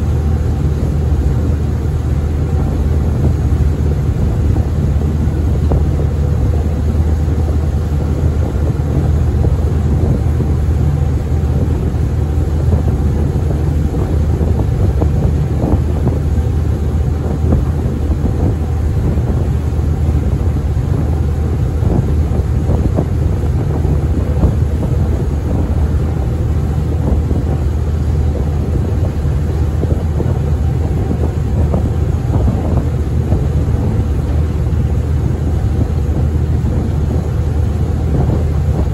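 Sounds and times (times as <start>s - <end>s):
water: 0.0s - 38.9s
wind: 0.0s - 38.9s.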